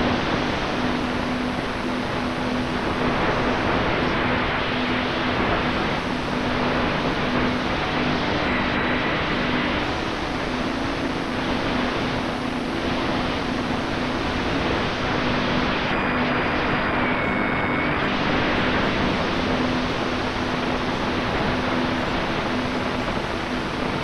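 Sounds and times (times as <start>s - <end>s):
electric motor and propeller hum: 0.0s - 24.0s
wind rushing over camera: 0.0s - 24.0s.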